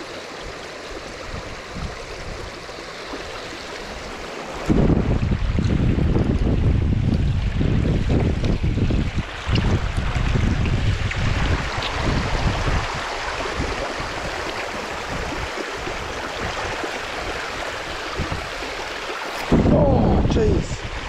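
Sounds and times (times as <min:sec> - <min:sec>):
river water rushing over shingle: 0:00.0 - 0:21.0
wind buffeting microphone: 0:00.5 - 0:21.0.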